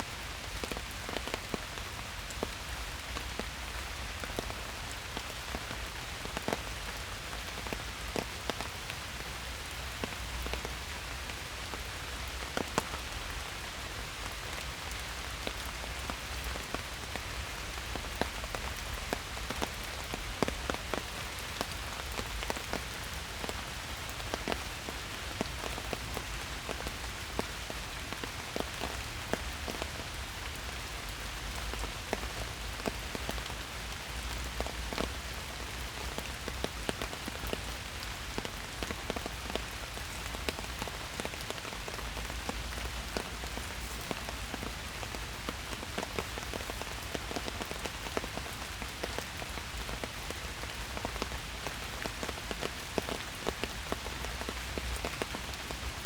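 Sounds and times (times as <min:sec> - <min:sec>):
steady rain falling: 0:00.0 - 0:56.0
raindrops ticking close by: 0:00.1 - 0:56.0.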